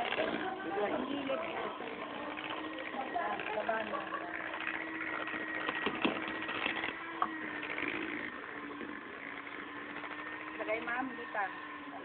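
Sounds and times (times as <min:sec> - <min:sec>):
electric hand mixer humming: 0:00.0 - 0:12.0.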